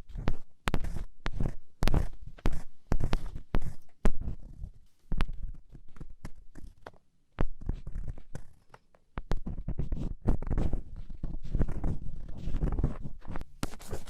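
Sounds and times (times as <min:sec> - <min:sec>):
earpick scratching microphone: 0:00.0 - 0:06.8, 0:07.4 - 0:14.0.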